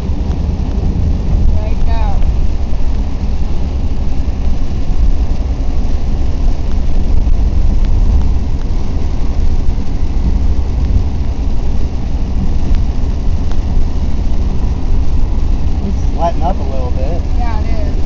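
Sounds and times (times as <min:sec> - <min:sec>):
car cabin rumble: 0:00.0 - 0:18.0
rain and wet tyres hiss: 0:00.0 - 0:18.0.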